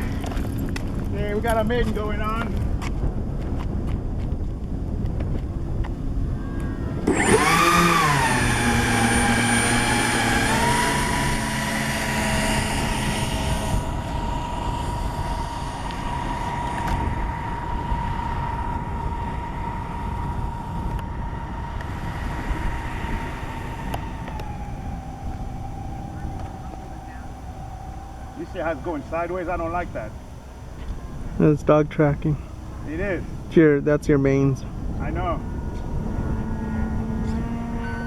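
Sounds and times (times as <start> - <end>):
electric ducted fans whining: 0.0 - 38.0.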